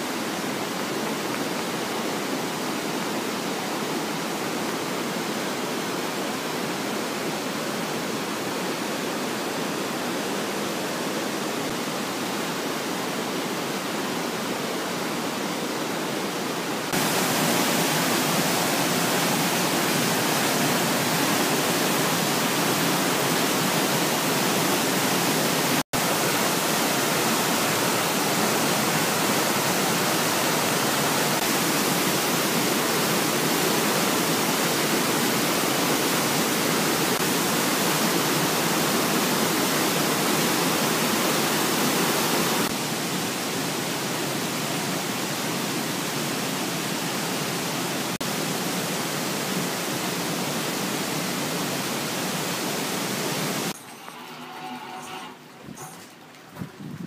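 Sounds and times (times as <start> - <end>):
waterfall rushing: 0.0 - 56.3.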